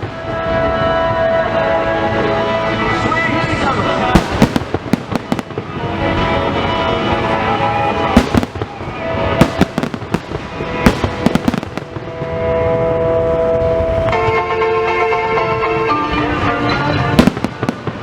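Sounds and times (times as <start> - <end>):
fireworks bursting: 0.0 - 14.4, 16.4 - 18.0
music with long held notes: 0.0 - 18.0.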